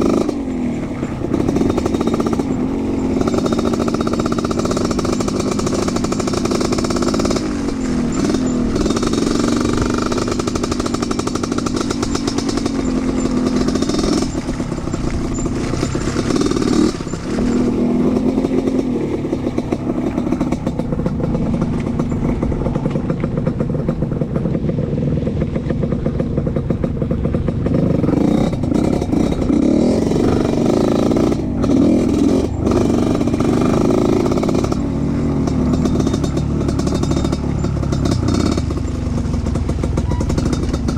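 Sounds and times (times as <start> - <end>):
sharp knocks and rattles: 0.0 - 24.8, 25.4 - 40.9
motorcycle engine running: 0.0 - 40.9.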